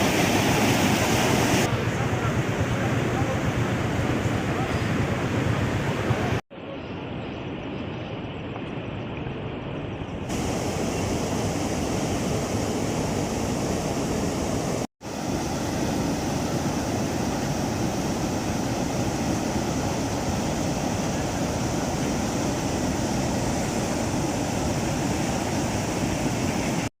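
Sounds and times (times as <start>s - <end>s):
floodwater rushing: 0.0s - 6.4s, 10.3s - 26.9s.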